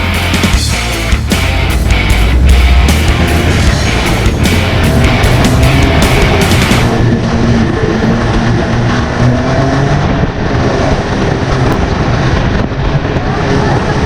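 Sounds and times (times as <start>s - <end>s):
snowmobile engine running: 0.0s - 14.0s.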